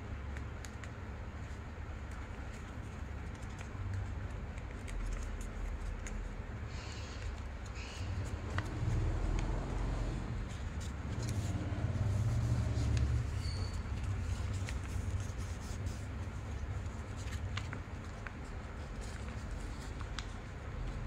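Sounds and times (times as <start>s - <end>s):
paper folding and creasing: 0.4s - 21.0s.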